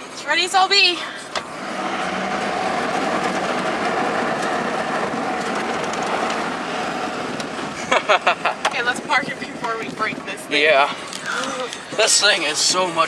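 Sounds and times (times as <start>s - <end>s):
diesel truck engine at high revs: 1.3s - 12.6s.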